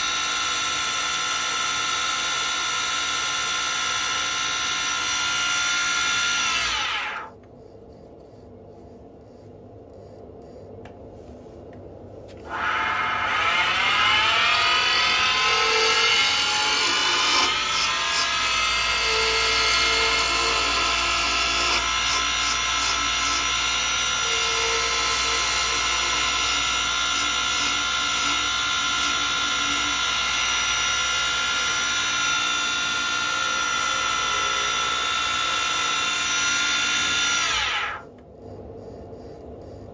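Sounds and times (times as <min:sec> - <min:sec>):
lathe motor whine: 0:00.0 - 0:07.3, 0:12.4 - 0:38.1.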